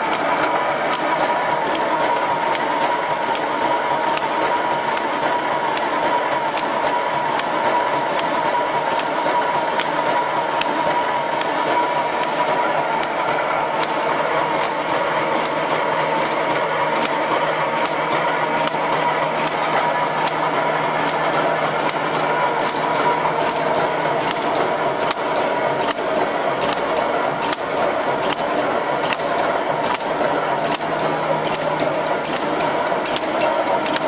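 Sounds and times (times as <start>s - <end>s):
sharp metallic clicks: 0.0s - 10.0s, 12.2s - 14.8s, 17.8s - 34.0s
welding machine hum and whine: 0.0s - 34.0s.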